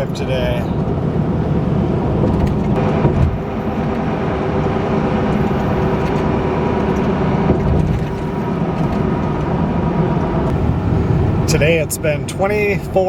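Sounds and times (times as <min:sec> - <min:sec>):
diesel truck engine: 0:00.0 - 0:13.0
road noise: 0:00.0 - 0:13.0.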